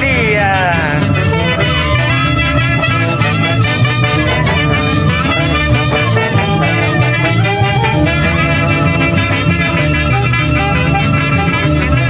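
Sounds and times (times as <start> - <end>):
clarinet melody: 0.0 - 12.0
steady low bass: 0.0 - 12.0.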